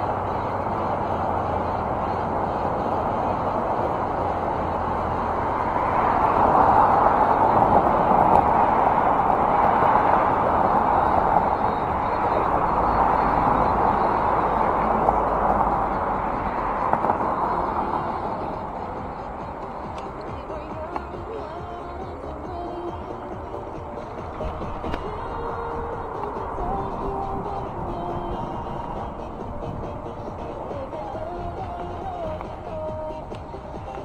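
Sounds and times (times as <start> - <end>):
road traffic passing: 0.0 - 34.0.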